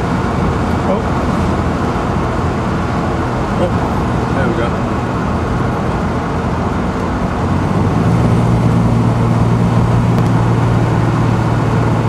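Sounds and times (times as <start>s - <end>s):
car engine humming: 0.0s - 12.0s
road noise: 0.0s - 12.0s.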